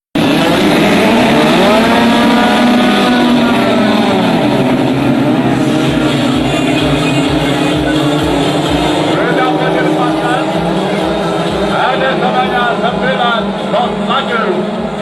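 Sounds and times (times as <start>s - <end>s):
racing power boat engines: 0.1s - 15.0s.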